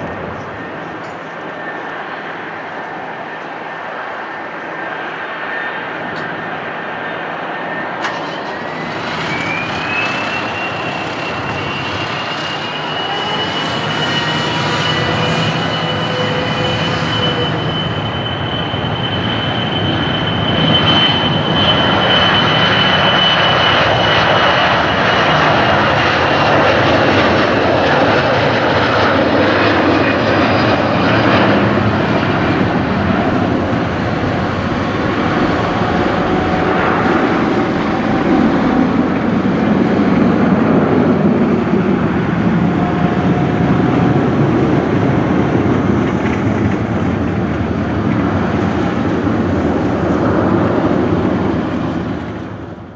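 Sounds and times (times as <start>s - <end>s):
jet engines at takeoff: 0.0s - 52.9s.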